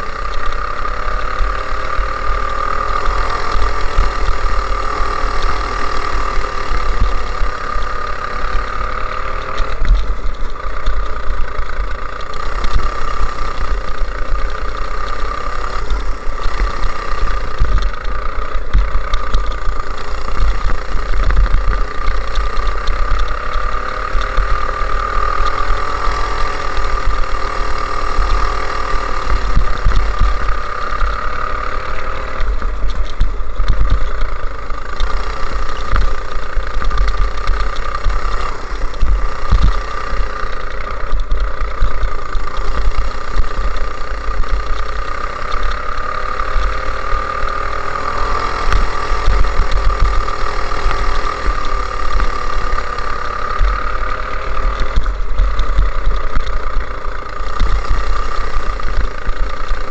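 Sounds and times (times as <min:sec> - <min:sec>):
chassis vibration: 0:00.0 - 0:59.9
go-kart engine running: 0:00.0 - 0:59.9.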